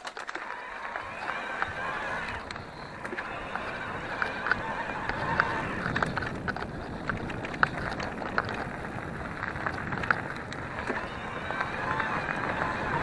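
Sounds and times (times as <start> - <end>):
bike clicking and rattling: 0.0 - 13.0
tyre and wind rush: 0.8 - 13.0.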